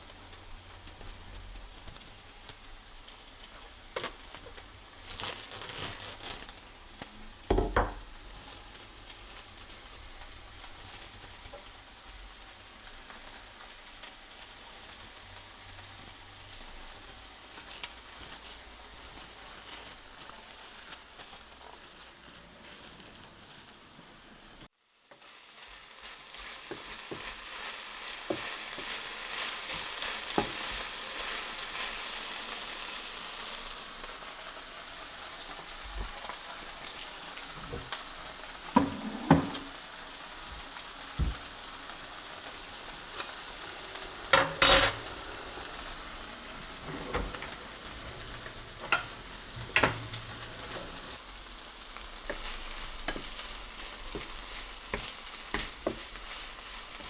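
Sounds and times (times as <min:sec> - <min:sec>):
food sizzling in a hot pan: 0:00.0 - 0:46.8, 0:47.4 - 0:57.0.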